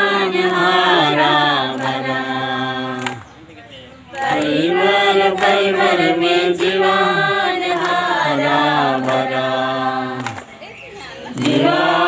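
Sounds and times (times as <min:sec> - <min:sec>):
voices singing in unison: 0:00.0 - 0:12.0.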